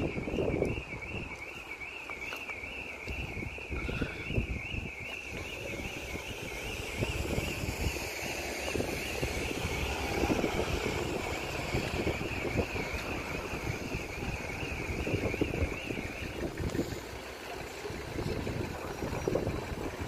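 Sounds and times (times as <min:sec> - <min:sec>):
level crossing warbling alarm: 0:00.0 - 0:17.0.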